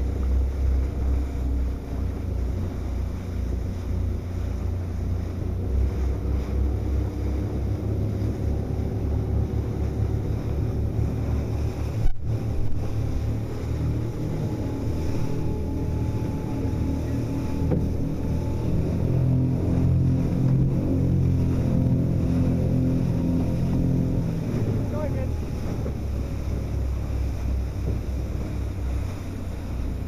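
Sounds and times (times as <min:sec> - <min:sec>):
boat engine drone: 0:00.0 - 0:30.0
water rushing past hull: 0:00.0 - 0:30.0
wind buffeting microphone: 0:00.0 - 0:30.0.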